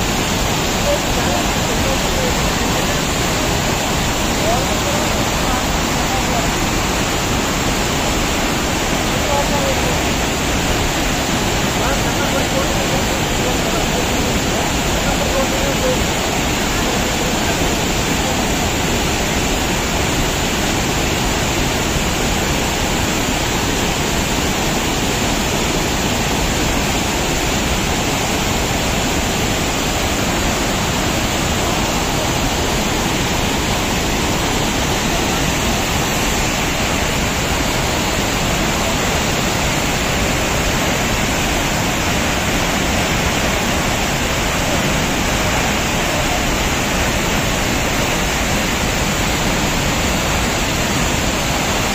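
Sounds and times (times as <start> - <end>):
water rushing over rocks: 0.0 - 51.9.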